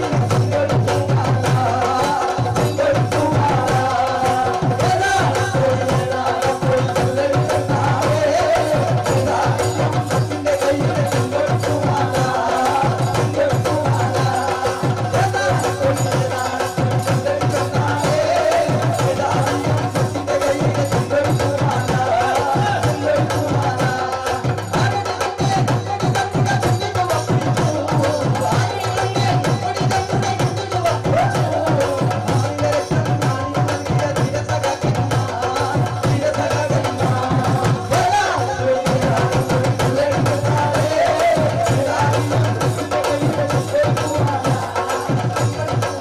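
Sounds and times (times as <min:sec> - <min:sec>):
hand drum beat: 0:00.0 - 0:46.0
man singing: 0:00.0 - 0:46.0
other singers joining: 0:00.0 - 0:46.0.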